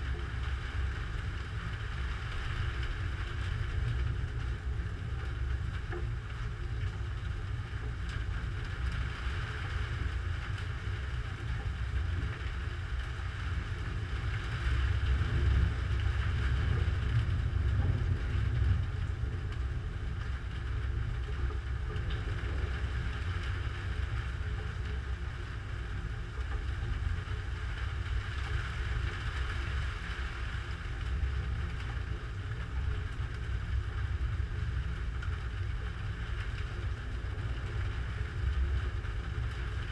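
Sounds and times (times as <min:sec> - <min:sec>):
storm rumble and hiss: 0:00.0 - 0:39.9.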